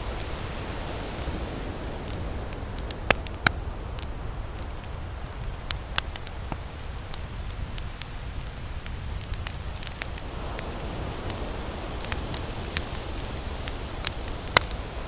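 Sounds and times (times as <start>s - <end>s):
campfire crackling and popping: 0.0s - 15.0s
surf rumbling: 0.0s - 15.0s.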